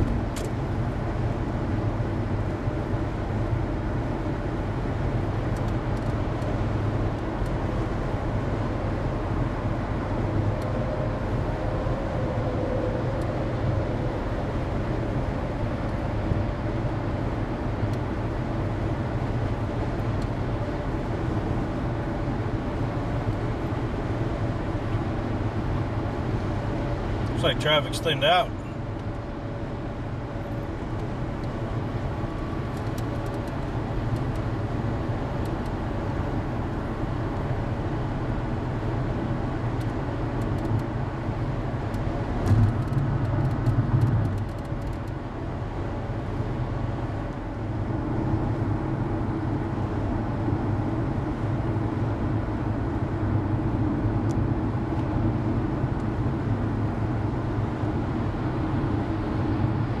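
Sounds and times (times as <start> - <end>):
car road noise from cabin: 0.0 - 60.0.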